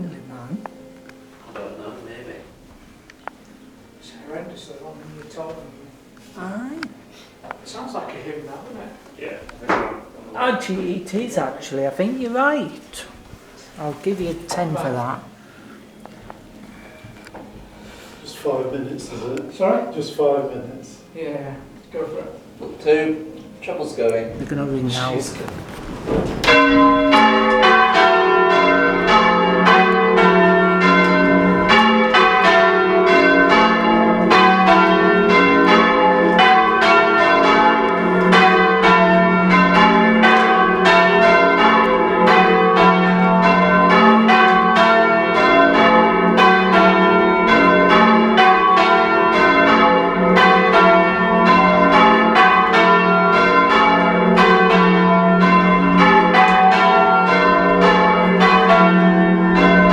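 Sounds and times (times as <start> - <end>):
church bells ringing: 0.0 - 8.9, 10.1 - 59.9.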